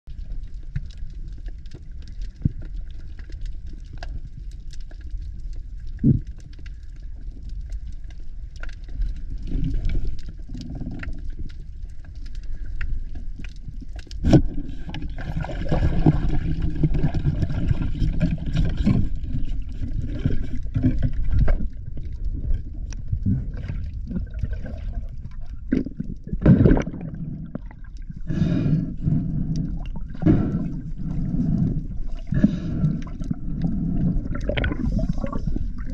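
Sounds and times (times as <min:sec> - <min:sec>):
underwater rumble of moving water: 0:00.1 - 0:35.9.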